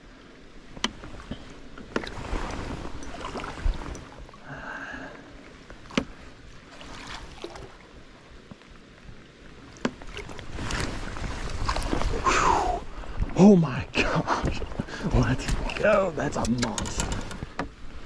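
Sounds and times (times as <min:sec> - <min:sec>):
water splashing against boat: 0:00.6 - 0:13.5, 0:14.1 - 0:18.0.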